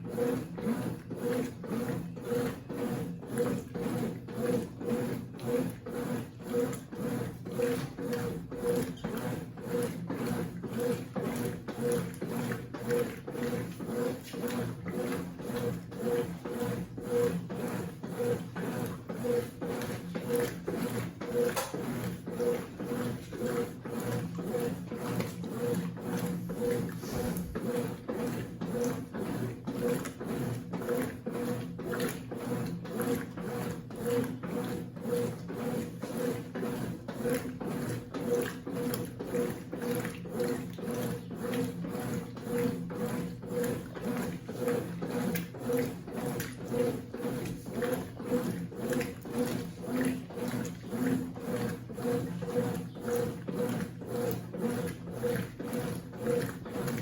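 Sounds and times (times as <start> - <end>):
washing machine motor hum: 0.0 - 57.0
washing machine rhythmic churning: 0.0 - 57.0.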